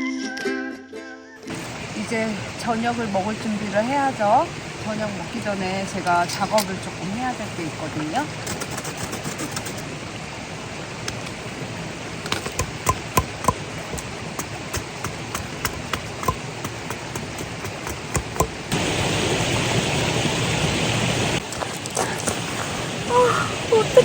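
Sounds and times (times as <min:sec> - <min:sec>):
loud hiss: 0:01.5 - 0:24.0
stream rushing: 0:01.5 - 0:24.0.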